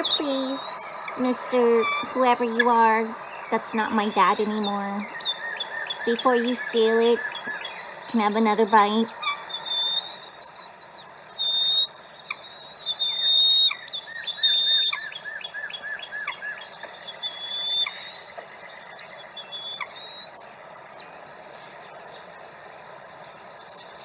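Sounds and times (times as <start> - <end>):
eagles calling: 0.0 - 23.4.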